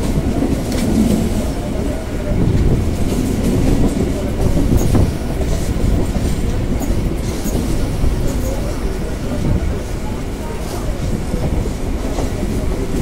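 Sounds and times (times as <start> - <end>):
clickety-clack over rail joints: 0.0 - 13.0
train wheels rumbling on rails: 0.0 - 13.0.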